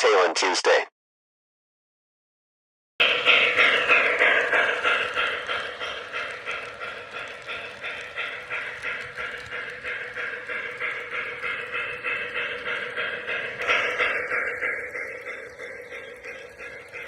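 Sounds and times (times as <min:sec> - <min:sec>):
model train steam chuffing: 0:03.0 - 0:17.0.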